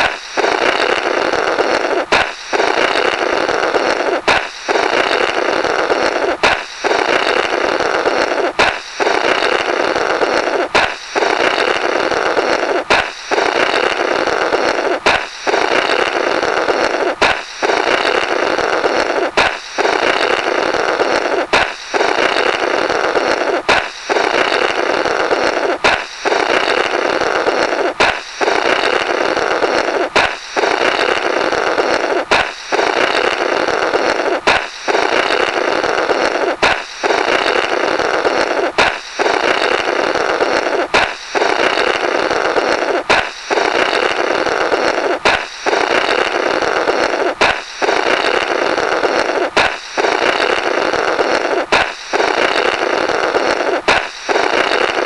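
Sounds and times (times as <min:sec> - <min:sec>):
balloon popping: 0:00.0 - 0:55.0
raspy flapping balloon blow: 0:00.0 - 0:55.0.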